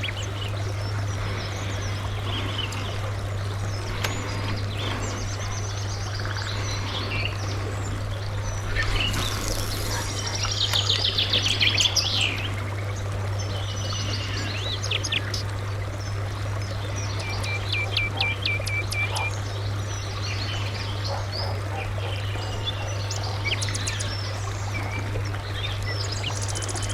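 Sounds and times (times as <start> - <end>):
steady low hum: 0.0 - 26.9
wild birds singing: 0.0 - 26.9.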